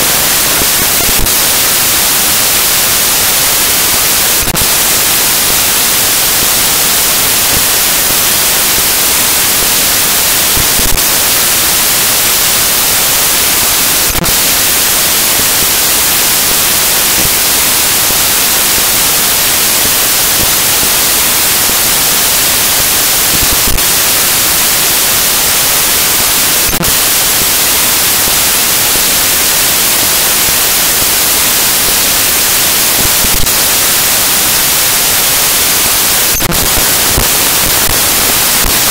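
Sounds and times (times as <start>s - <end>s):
static hiss: 0.0s - 38.9s.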